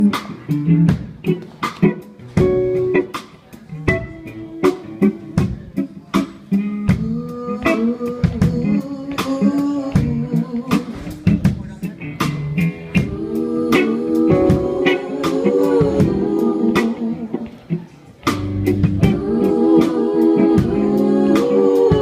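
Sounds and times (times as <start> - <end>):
drum kit steady beat: 0.0 - 22.0
guitar: 0.0 - 22.0
voices singing: 0.0 - 22.0.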